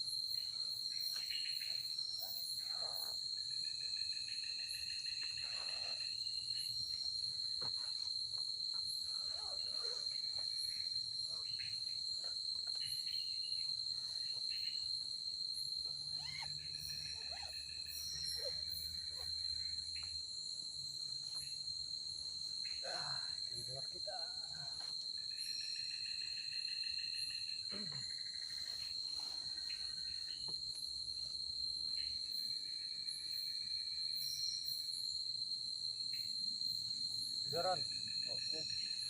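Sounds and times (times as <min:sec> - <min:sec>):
crickets chirping chorus: 0:00.0 - 0:39.0
faint short insect calls: 0:00.0 - 0:39.0.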